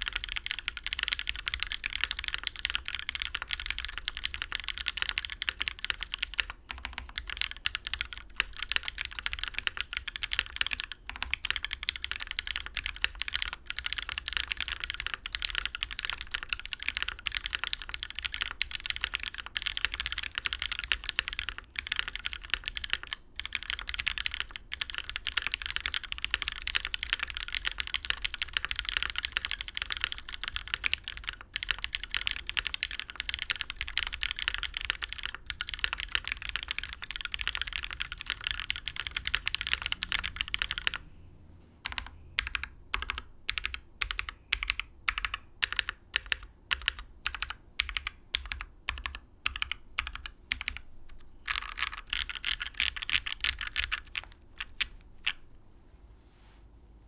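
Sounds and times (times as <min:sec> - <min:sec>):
fast typing on mechanical keyboard: 0:00.0 - 0:41.1, 0:41.8 - 0:55.4.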